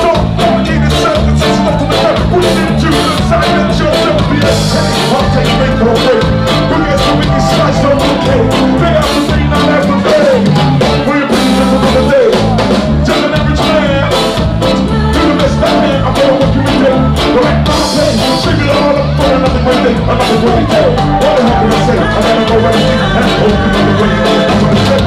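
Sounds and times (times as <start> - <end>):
man singing lead vocal: 0.0 - 25.0
ska band playing: 0.0 - 25.0.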